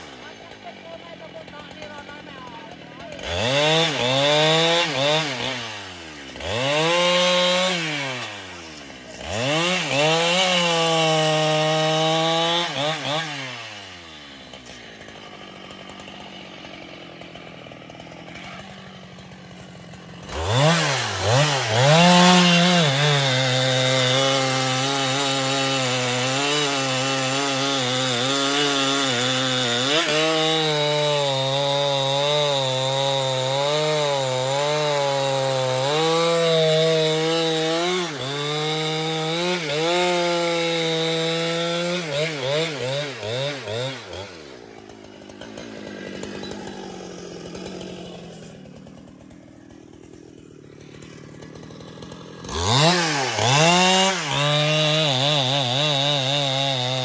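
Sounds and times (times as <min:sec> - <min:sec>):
chainsaw revving and cutting: 0:00.0 - 0:57.0.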